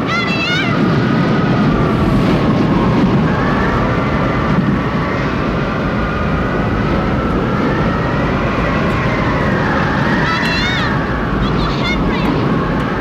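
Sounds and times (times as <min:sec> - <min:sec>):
faint howling whine: 0:00.0 - 0:13.0
roar of tornado wind: 0:00.0 - 0:13.0.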